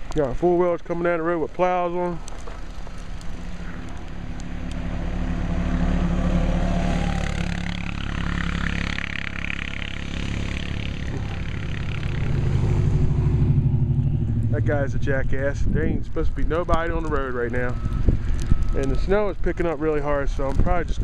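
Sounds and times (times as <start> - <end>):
atv engines running: 0.0 - 21.0.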